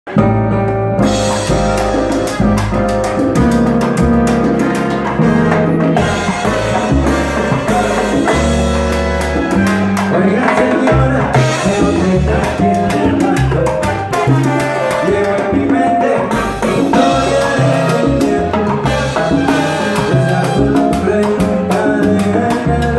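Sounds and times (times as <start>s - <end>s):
live salsa band playing: 0.1s - 22.9s.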